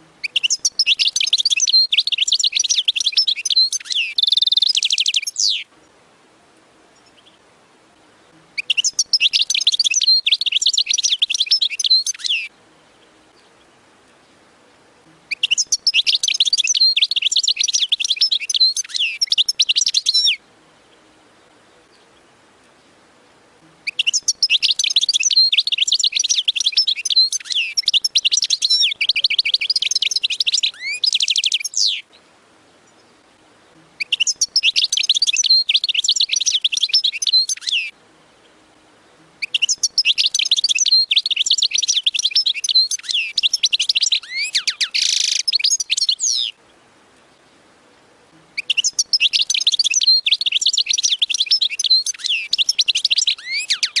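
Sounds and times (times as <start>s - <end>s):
goldfinch singing: 0.2s - 5.7s, 8.2s - 14.4s, 15.1s - 23.0s, 23.7s - 46.7s, 48.5s - 54.0s.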